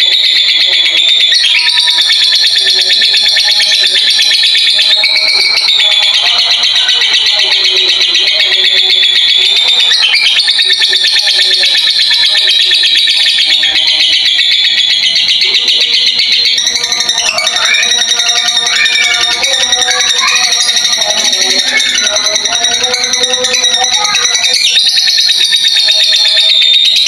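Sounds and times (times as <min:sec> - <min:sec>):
lovebird chattering trill: 0:00.0 - 0:26.6
lower wavering bird notes: 0:02.9 - 0:25.3.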